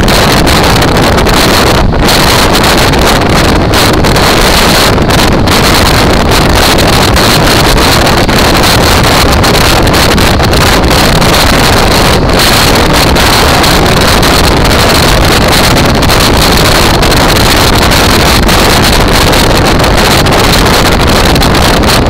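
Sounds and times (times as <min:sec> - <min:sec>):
road noise: 0:00.0 - 0:22.0
wind noise on microphone: 0:00.0 - 0:22.0.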